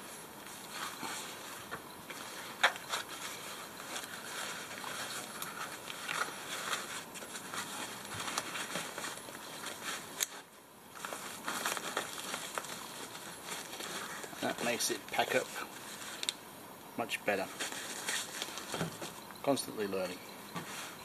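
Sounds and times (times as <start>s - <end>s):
fabric rustling: 0.0s - 16.3s, 17.4s - 19.3s.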